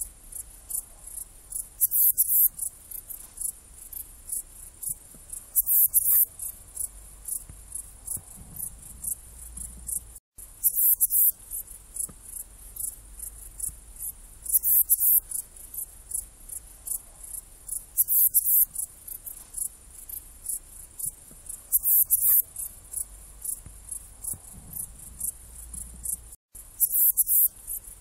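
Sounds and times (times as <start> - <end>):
bush cricket chirping: 0.3 - 28.0.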